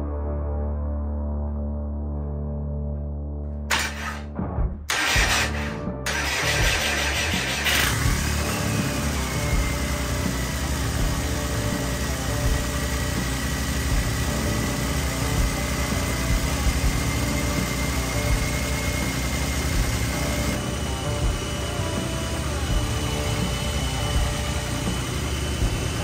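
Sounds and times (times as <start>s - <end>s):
diesel engine idling: 4.9s - 26.0s.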